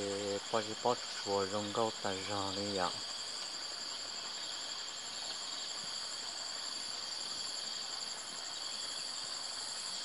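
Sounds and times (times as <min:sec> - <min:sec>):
insect pulsing trill: 0:00.0 - 0:10.0
insects chorus: 0:00.0 - 0:10.0.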